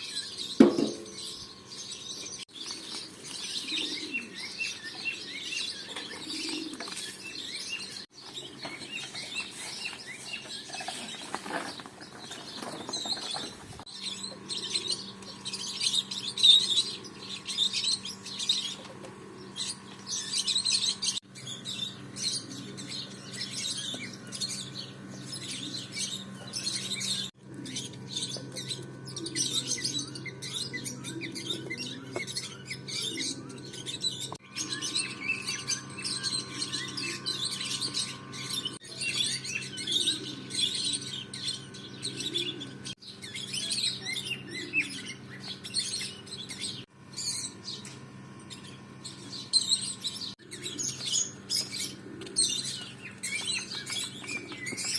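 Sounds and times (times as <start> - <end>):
small birds chirping: 0.0 - 54.9
steady low hum: 0.0 - 54.9.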